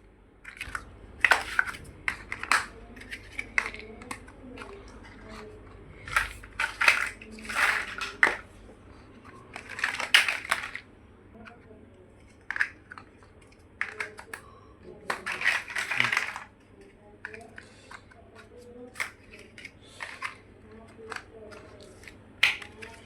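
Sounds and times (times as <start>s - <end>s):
plastic bricks clicking: 0.4s - 8.4s, 9.3s - 10.8s, 12.2s - 16.5s, 17.2s - 23.0s.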